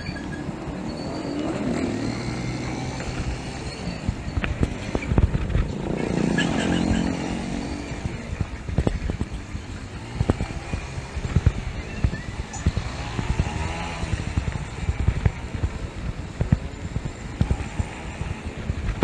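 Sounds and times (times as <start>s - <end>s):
motorcycle engine running: 0.0s - 19.0s
wind rumble on microphone: 2.5s - 19.0s.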